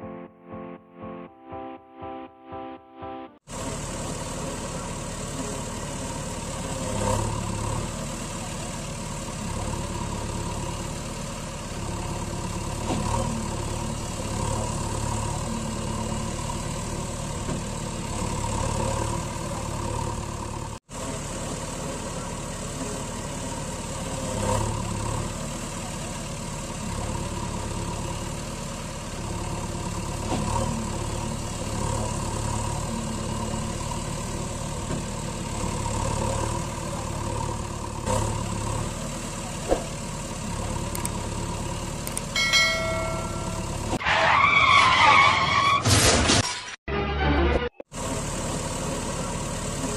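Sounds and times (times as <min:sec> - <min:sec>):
engine idling: 0:03.4 - 0:44.0, 0:47.9 - 0:49.9.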